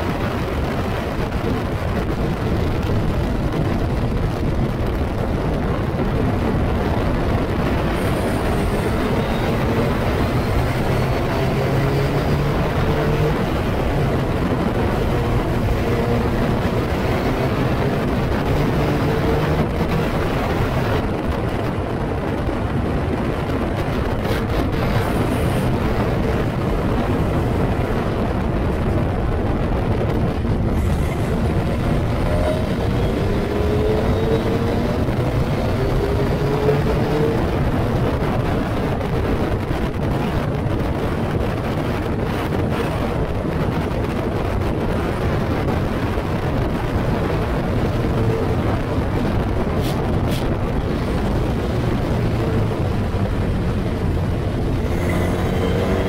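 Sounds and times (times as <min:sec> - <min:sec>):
wind buffeting microphone: 0:00.0 - 0:56.0
race car engine revving: 0:05.8 - 0:56.0.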